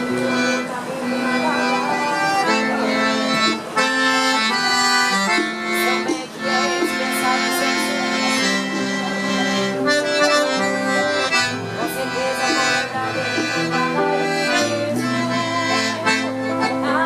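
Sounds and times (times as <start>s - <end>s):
accordion melody: 0.0s - 17.0s
band playing: 0.0s - 17.0s.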